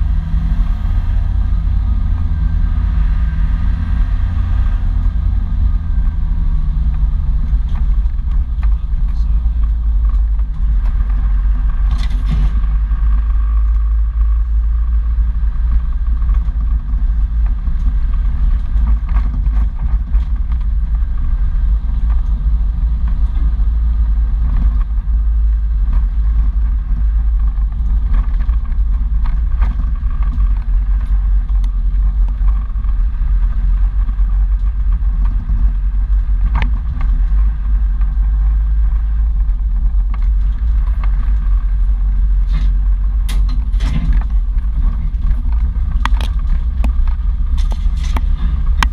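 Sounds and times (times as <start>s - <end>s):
off-road vehicle engine rumble: 0.0s - 48.9s.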